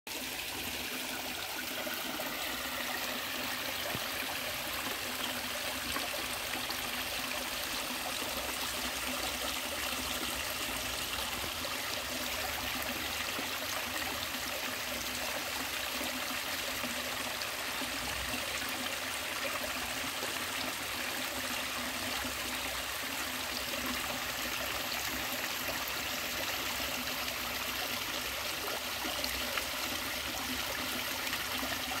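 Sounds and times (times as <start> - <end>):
stream water trickling over rocks: 0.1 - 32.0.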